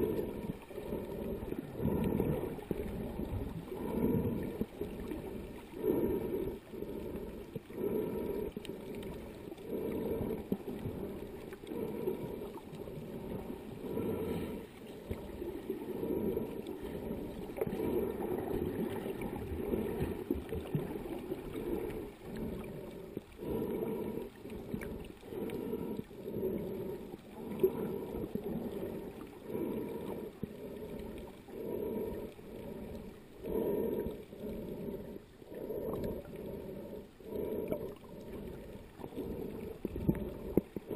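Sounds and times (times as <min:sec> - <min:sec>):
muffled underwater water noise: 0:00.0 - 0:40.9.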